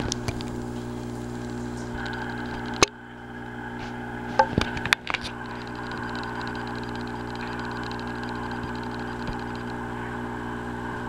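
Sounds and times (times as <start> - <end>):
aquarium equipment humming: 0.0 - 11.0.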